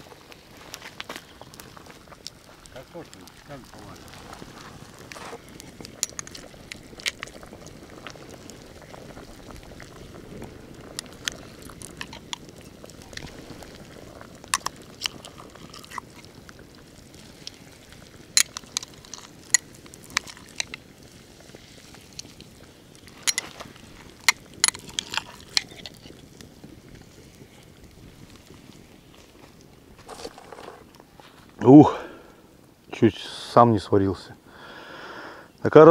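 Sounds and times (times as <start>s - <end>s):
campfire crackling and popping: 0.0s - 35.9s
low steady fire rush: 0.0s - 35.9s.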